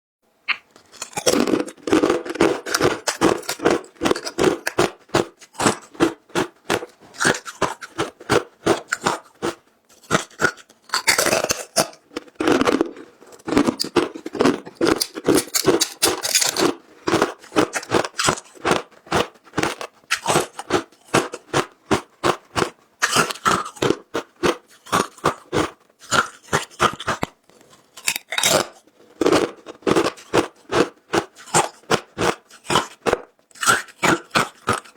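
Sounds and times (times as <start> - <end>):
ice being chewed crunching: 0.5 - 34.9.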